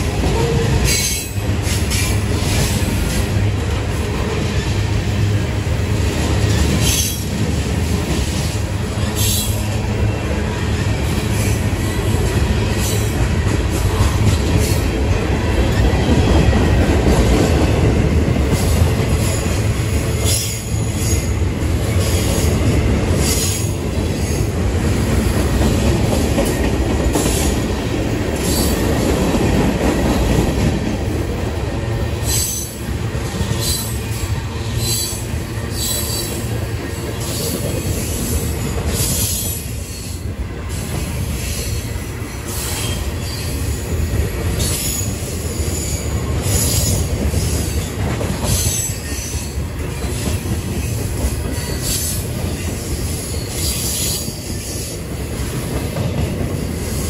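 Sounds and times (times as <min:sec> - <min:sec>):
steel wheels rumbling on rail: 0:00.0 - 0:57.0.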